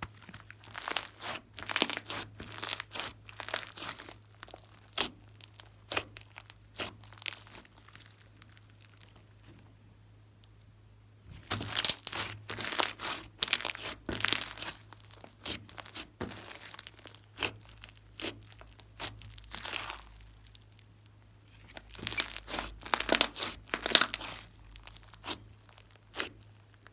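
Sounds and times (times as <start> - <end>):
slime squishing and crackling: 0.0 - 9.5, 11.3 - 26.9.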